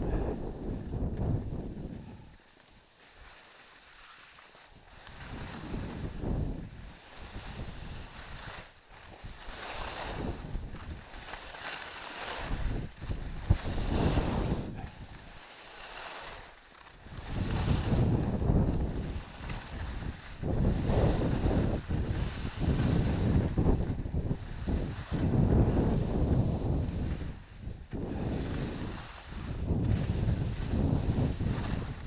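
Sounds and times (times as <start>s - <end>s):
wind buffeting microphone: 0.0s - 2.4s, 4.8s - 15.4s, 17.0s - 32.0s
skis scraping over snow: 0.0s - 32.0s.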